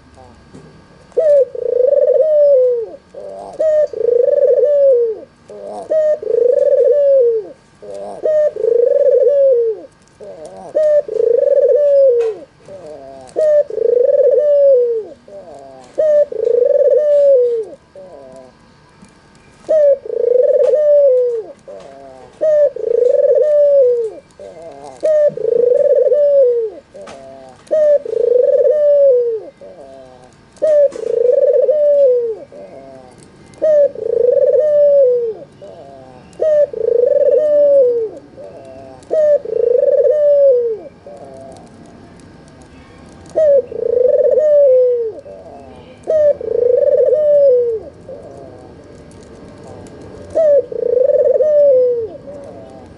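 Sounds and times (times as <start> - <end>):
dove cooing: 1.0 - 18.6, 19.6 - 41.8, 43.1 - 52.9.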